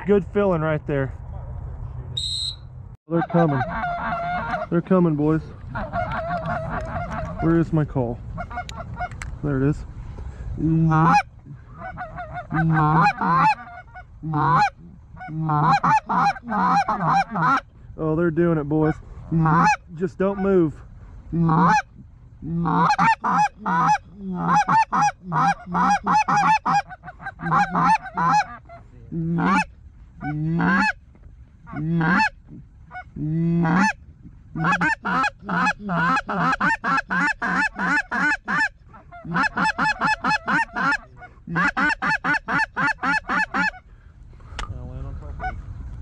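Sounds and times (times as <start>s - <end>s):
goose call honks and clucks: 2.2s - 9.3s, 10.6s - 17.7s, 18.8s - 31.0s, 31.6s - 43.9s, 45.3s - 45.6s
rustle: 3.6s - 46.0s.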